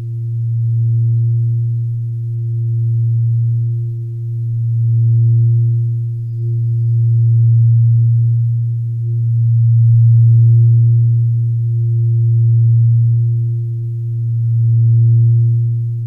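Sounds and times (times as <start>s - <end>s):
relaxation music drone: 0.0s - 16.0s.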